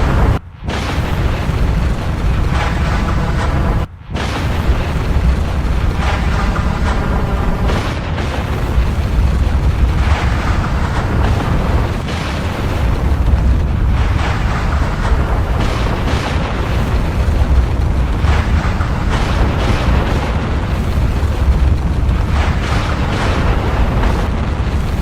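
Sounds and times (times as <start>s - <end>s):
noisy eruption surges: 0.0s - 25.0s
volcano rumbling: 0.0s - 25.0s.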